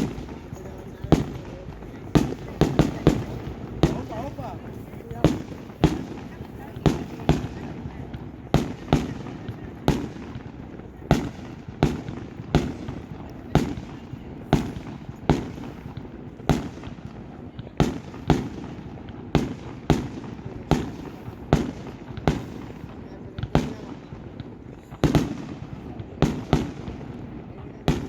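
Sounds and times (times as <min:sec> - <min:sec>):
fireworks bursting with bangs: 0:00.0 - 0:28.0.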